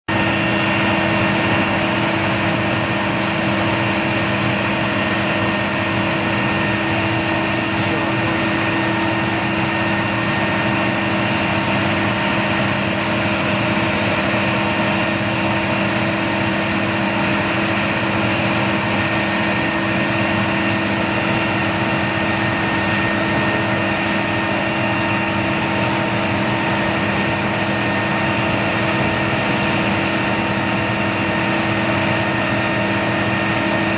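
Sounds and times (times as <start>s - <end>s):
aircraft machinery drone: 0.1s - 33.9s.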